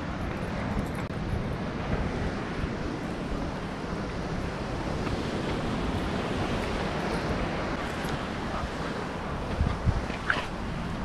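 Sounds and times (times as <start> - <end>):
ocean surf washing on shore: 0.0 - 11.0
wind rumbling on microphone: 0.0 - 11.0.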